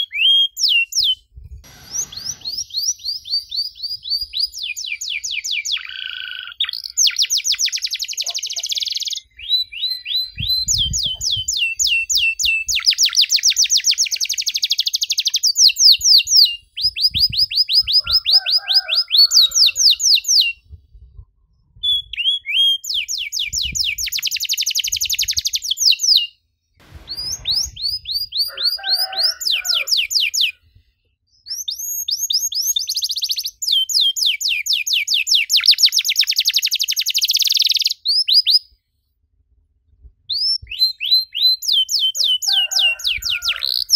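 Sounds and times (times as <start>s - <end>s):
canary singing fast trills: 0.0s - 20.7s, 21.8s - 26.3s, 27.0s - 30.6s, 31.3s - 38.6s, 40.3s - 43.9s.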